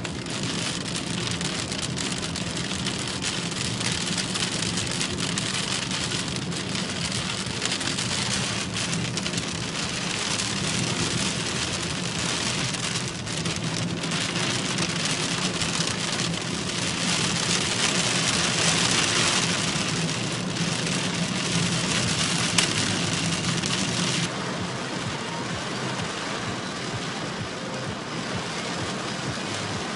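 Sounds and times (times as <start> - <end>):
car engine humming: 0.0 - 29.9
heavy rain on car: 0.0 - 29.9.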